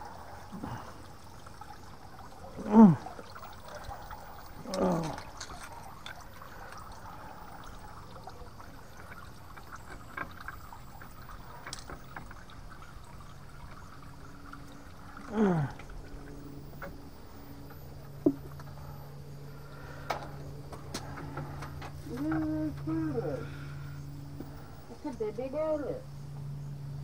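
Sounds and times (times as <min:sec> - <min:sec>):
fountain trickling: 0:00.0 - 0:26.0.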